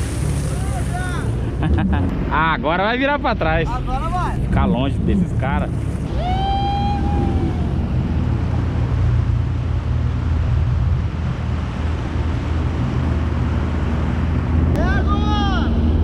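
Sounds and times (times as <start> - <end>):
jet ski engine drone: 0.0 - 16.0
water rushing under hull: 0.0 - 16.0.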